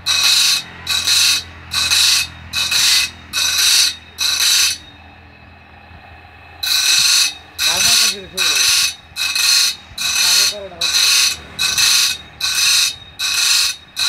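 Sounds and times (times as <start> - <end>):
grinder wheel grinding saw teeth: 0.0 - 5.0, 6.5 - 14.0
grinder motor humming: 0.0 - 14.0.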